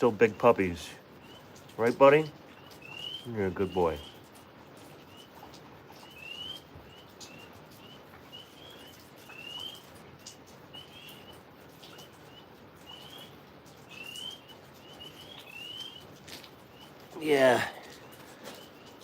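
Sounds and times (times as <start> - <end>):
rain hissing: 0.0 - 19.0
tree frogs chirping: 0.0 - 19.0
water drips: 0.0 - 19.0.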